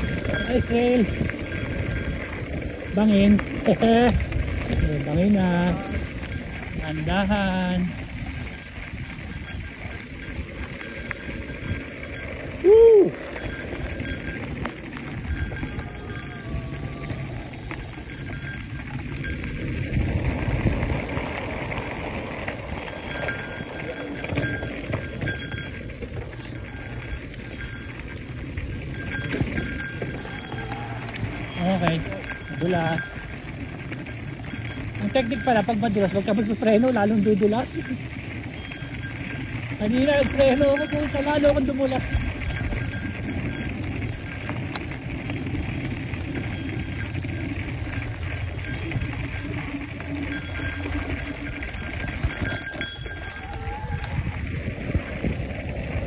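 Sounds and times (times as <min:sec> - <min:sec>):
wind on microphone: 0:00.0 - 0:36.7, 0:37.8 - 0:56.0
faint high metallic ringing: 0:00.0 - 0:55.6
bike rattling over bumps: 0:00.0 - 0:56.0
bike tyres rumbling on dirt: 0:00.0 - 0:56.0.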